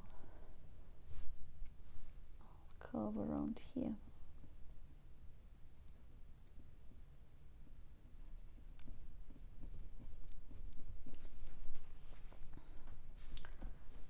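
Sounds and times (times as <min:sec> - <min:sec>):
paintbrush stroking paint: 0:00.2 - 0:02.3, 0:04.0 - 0:14.0.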